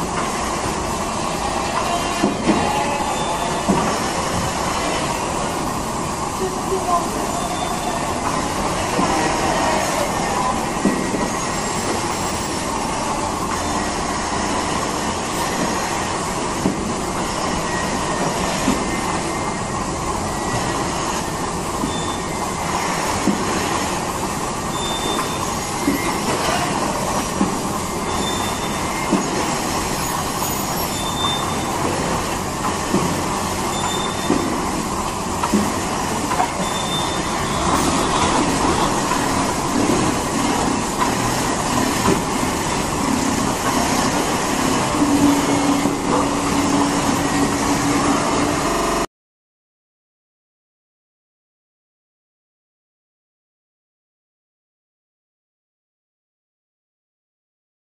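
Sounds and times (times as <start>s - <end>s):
milking machinery running: 0.0s - 49.1s.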